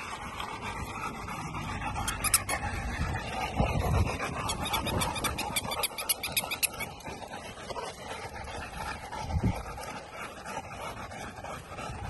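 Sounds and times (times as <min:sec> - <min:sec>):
dogs panting: 0:00.0 - 0:12.0.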